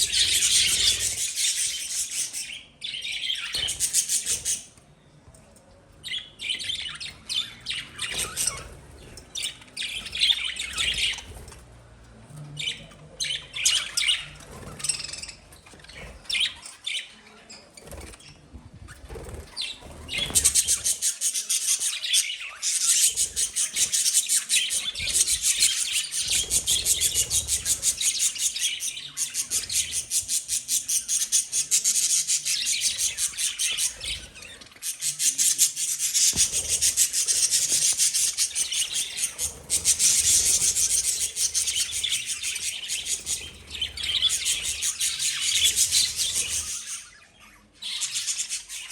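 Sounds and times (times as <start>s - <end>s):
lovebirds chirping: 0.0s - 4.8s, 5.9s - 11.6s, 12.6s - 48.9s.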